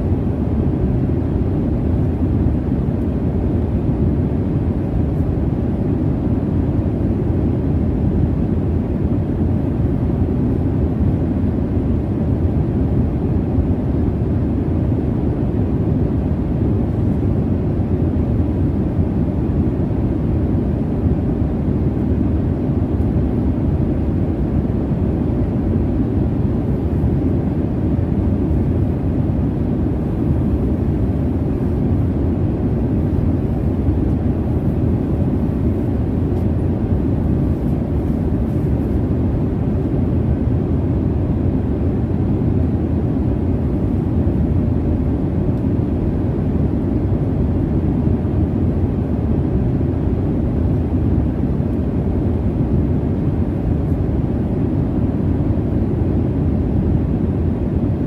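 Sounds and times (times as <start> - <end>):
jet cabin engine rumble and hiss: 0.0 - 58.0.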